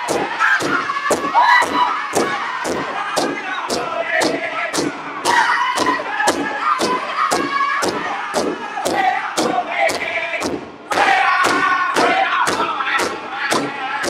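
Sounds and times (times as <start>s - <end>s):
big drum beating: 0.0s - 14.0s
men singing high voices: 0.0s - 14.0s.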